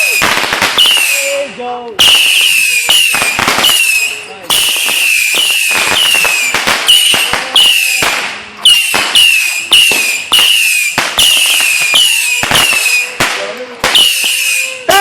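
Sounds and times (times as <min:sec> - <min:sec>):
whistling fireworks: 0:00.0 - 0:15.0.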